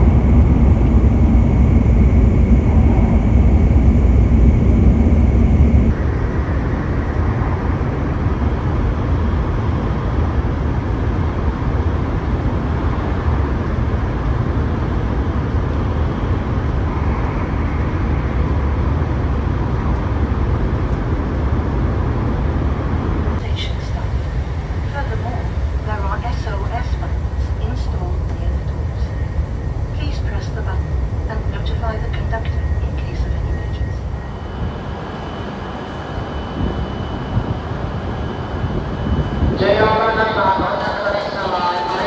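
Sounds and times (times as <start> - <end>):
train cabin rumble and rushing: 0.0 - 6.2, 8.4 - 42.0.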